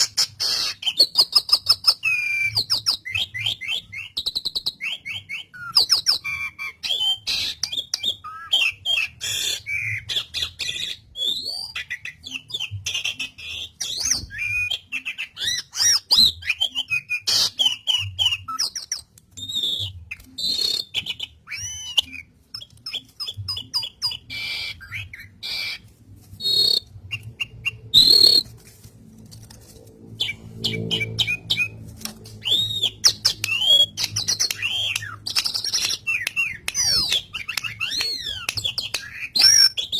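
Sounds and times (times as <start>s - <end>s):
starling singing: 0.0s - 28.5s, 30.1s - 39.9s.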